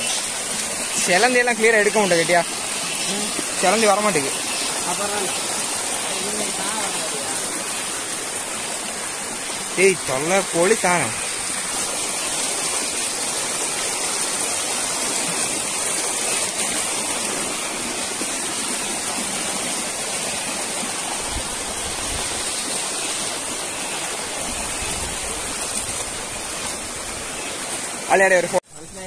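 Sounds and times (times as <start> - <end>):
stream splashing over stones: 0.0 - 28.7.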